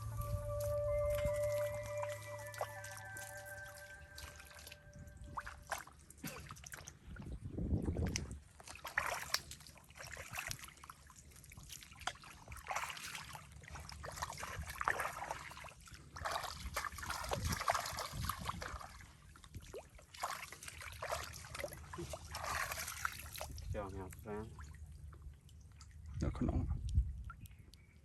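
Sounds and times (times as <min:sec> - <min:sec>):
muddy water trickling and sloshing: 0:00.0 - 0:28.0.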